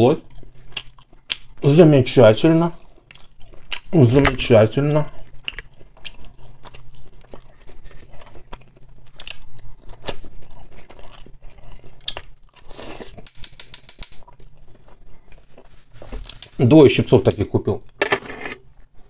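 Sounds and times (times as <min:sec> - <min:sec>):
man chewing food: 0:00.2 - 0:01.6, 0:02.6 - 0:16.5, 0:18.6 - 0:19.0.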